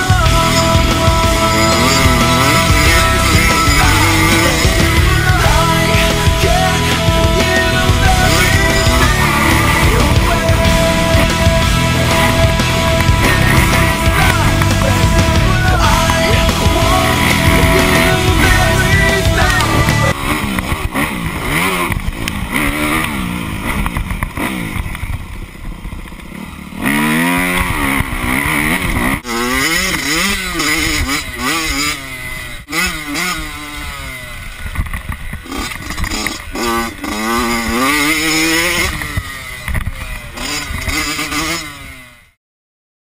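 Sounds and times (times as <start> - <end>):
dirt bike engine revving: 0.0 - 42.4.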